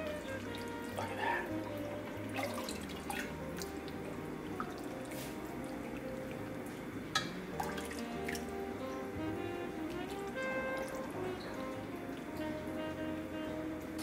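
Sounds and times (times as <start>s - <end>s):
broth pouring and splashing: 0.0s - 14.0s.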